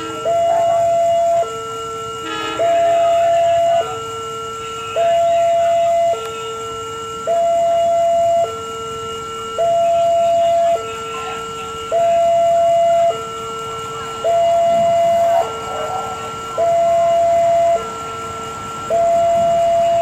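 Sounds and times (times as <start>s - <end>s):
level-crossing alarm alternating tones: 0.0s - 20.0s.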